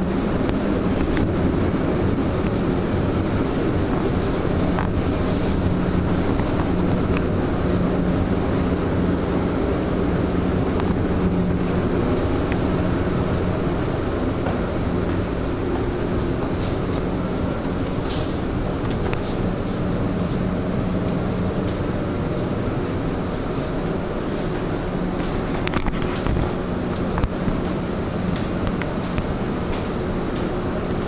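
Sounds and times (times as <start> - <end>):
ship engine drone: 0.0 - 31.0.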